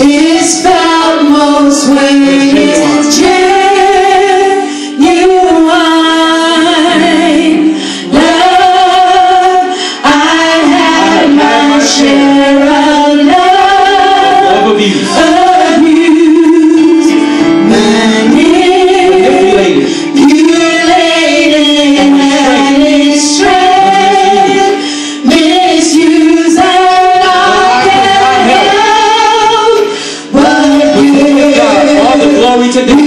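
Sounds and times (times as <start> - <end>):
women singing gospel: 0.0 - 33.0.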